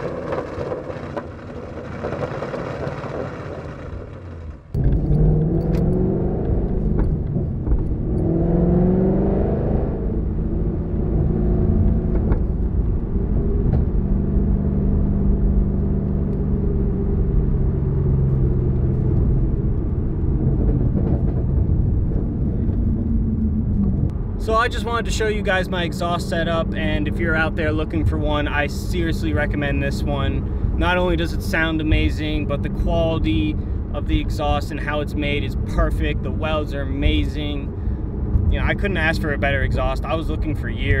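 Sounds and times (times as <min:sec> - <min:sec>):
loud car engine accelerating: 0:00.0 - 0:33.6.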